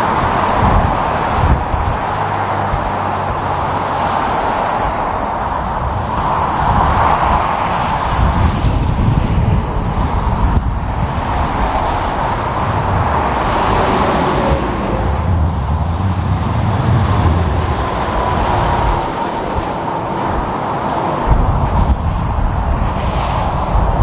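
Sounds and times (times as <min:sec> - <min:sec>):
highway traffic passing: 0:00.0 - 0:24.0.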